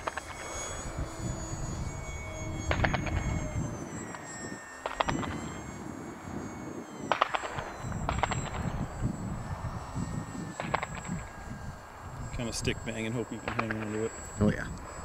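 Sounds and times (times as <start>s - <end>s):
electric motor and propeller whine: 0.0s - 15.0s
wind on microphone: 0.0s - 15.0s.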